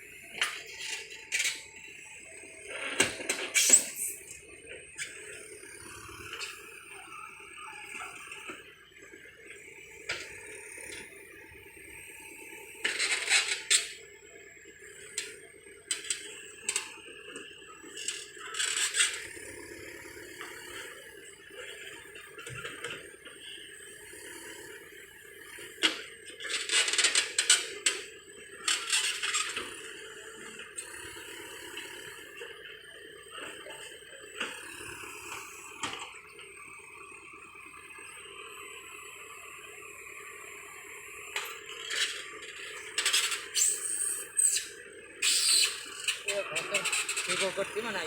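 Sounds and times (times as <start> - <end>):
heavy machinery engine drone: 0.0 - 48.0.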